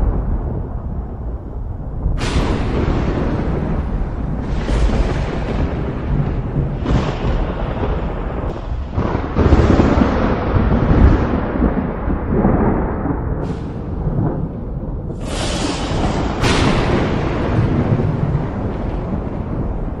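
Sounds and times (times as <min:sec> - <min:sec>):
sharp thunder claps: 0:00.0 - 0:20.0
thunder rumbling: 0:00.0 - 0:20.0.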